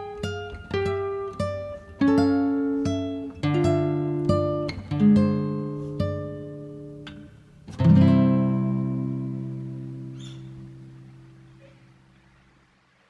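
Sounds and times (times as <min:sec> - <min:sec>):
acoustic guitar picking: 0:00.0 - 0:12.2.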